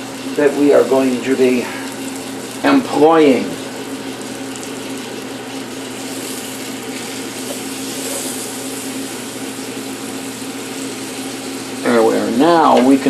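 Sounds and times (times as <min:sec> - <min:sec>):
electric fan humming: 0:00.0 - 0:13.0
liver sizzling in a pan: 0:00.0 - 0:13.0.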